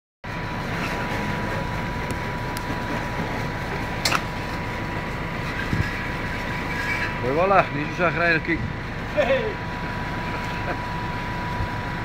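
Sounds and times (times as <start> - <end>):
motor running with whine: 0.3 - 12.0.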